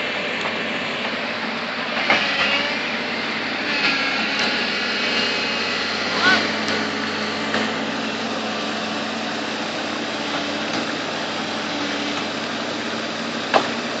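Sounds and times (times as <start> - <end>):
bulldozer engine running: 0.0 - 14.0.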